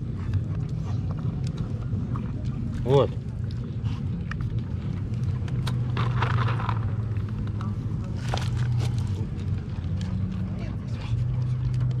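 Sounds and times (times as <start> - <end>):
dog eating dry food: 0.0 - 12.0
low engine drone: 0.0 - 12.0
pebbles shifting underfoot: 1.1 - 12.0.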